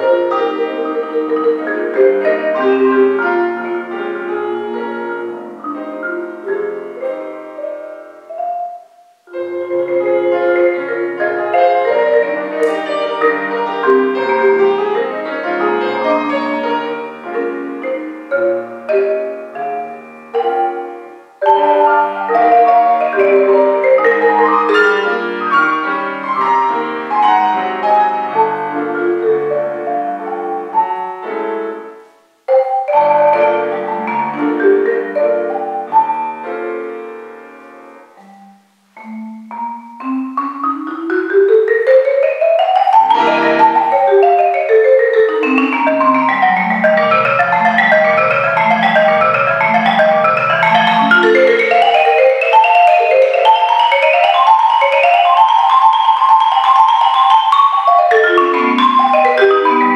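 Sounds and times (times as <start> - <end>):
marimba played with mallets: 0.0 - 31.1, 32.5 - 37.0, 38.0 - 59.9.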